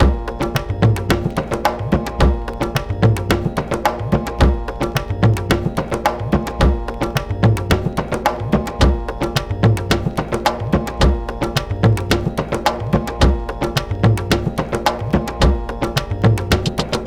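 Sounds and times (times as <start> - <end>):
deep bass hits: 0.0 - 17.0
music with fast percussive beat: 0.0 - 17.0.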